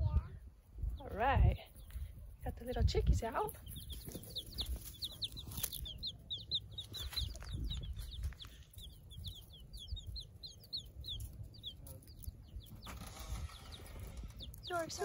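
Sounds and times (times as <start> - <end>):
baby chicks peeping: 0.6 - 15.0.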